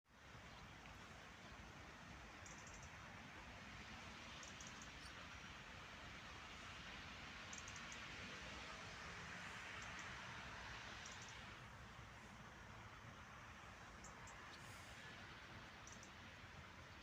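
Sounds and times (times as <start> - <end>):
faint outdoor hiss: 0.1 - 17.0.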